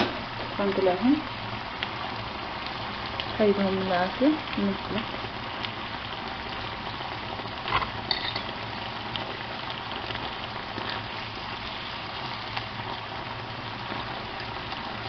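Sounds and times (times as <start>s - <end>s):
seafood sizzling in a pan: 0.1s - 15.0s.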